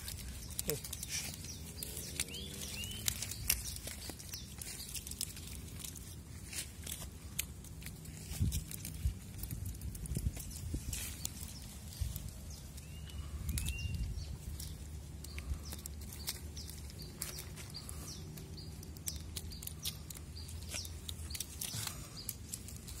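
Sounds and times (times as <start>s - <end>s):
small bird chirping: 0.0s - 7.4s, 8.1s - 23.0s.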